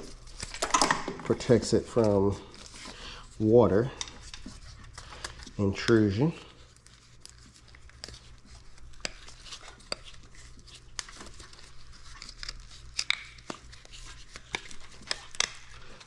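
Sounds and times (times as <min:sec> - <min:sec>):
plastic and rubber rustling: 0:00.0 - 0:16.0.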